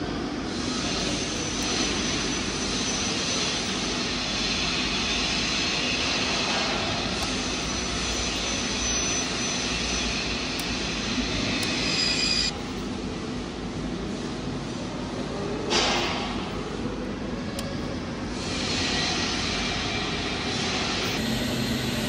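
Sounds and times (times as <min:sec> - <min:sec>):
cooling fan humming: 0:00.0 - 0:22.0.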